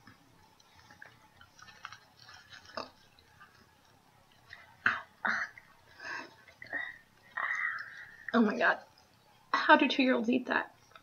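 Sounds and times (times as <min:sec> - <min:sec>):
wet chewing mouth sounds: 0:00.1 - 0:09.6.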